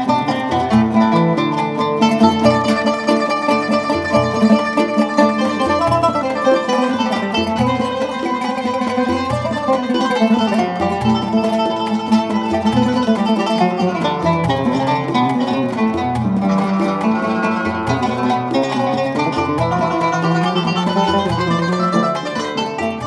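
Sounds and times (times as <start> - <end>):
plucked strings music: 0.0 - 23.0.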